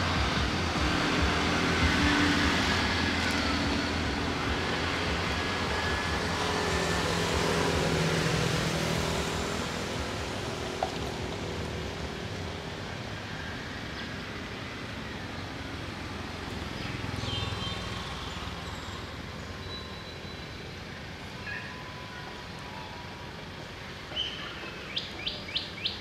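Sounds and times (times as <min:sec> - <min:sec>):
engine rumble: 0:00.0 - 0:25.8.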